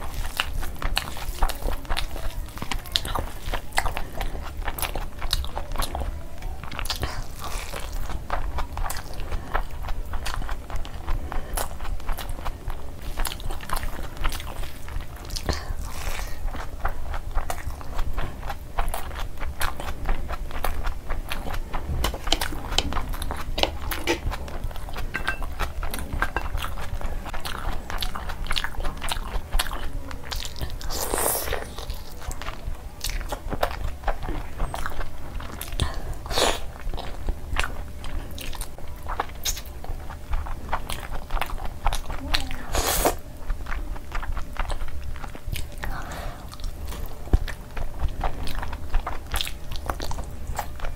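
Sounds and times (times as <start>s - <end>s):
wet chewing and mouth smacks: 0.0s - 50.9s.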